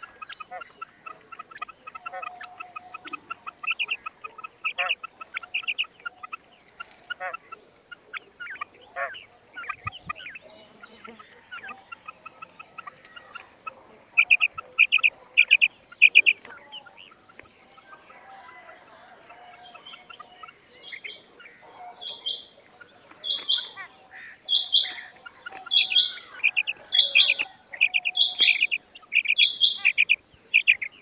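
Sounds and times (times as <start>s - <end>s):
quail calling: 0.0s - 31.0s.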